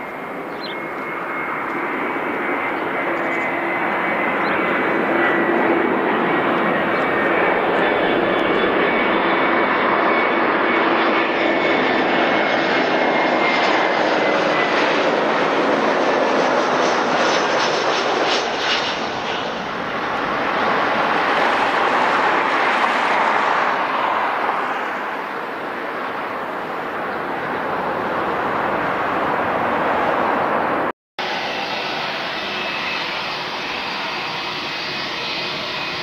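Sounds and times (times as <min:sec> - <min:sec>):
jet airliner engines passing: 0:00.0 - 0:36.0.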